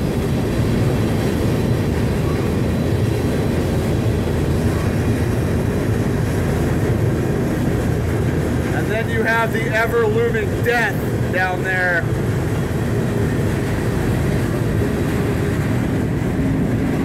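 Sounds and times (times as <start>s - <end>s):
freight train rumbling and rattling: 0.0s - 17.0s.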